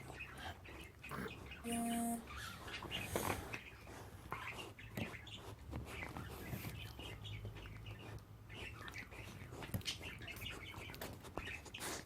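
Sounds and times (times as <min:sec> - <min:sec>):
small animals chirping and squeaking: 0:00.0 - 0:12.0.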